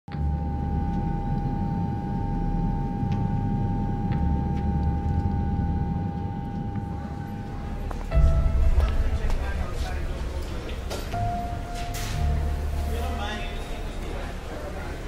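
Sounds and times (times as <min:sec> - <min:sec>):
low engine rumble: 0:00.4 - 0:15.0.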